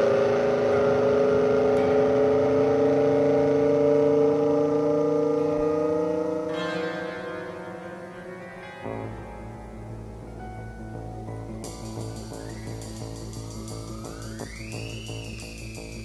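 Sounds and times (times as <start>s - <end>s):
droning chord rising in pitch: 0.0s - 16.0s.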